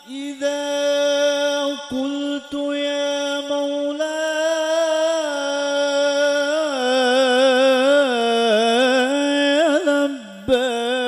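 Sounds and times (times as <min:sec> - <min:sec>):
man singing through microphone: 0:00.0 - 0:11.0.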